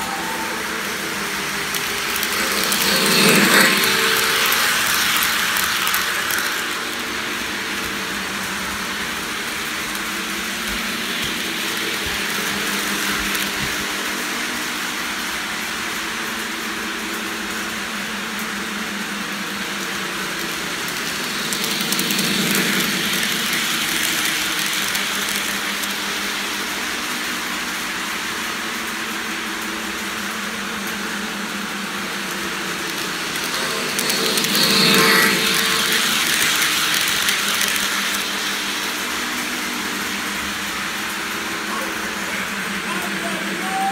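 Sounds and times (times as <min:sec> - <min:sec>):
model train motor hum: 0:00.0 - 0:43.9
wheels rolling on track: 0:00.0 - 0:43.9.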